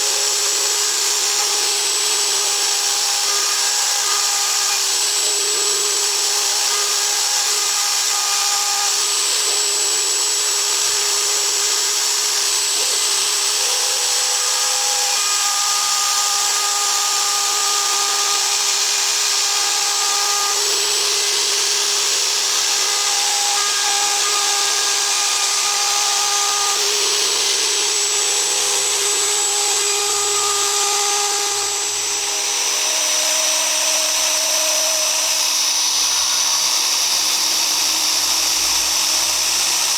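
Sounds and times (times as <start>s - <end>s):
router spindle running: 0.0s - 39.9s.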